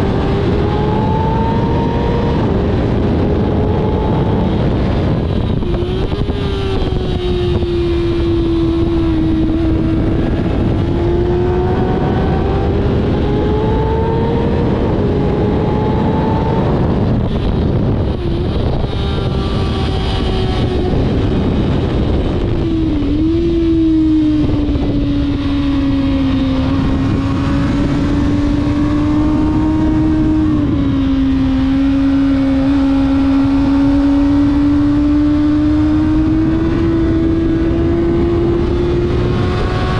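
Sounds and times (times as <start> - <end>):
sport bike engine at speed: 0.0 - 39.9
wind noise on microphone: 0.0 - 39.9.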